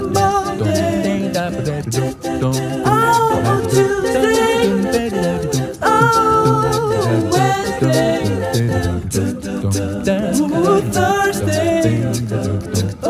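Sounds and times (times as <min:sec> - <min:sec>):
song with singing and bass: 0:00.0 - 0:13.0.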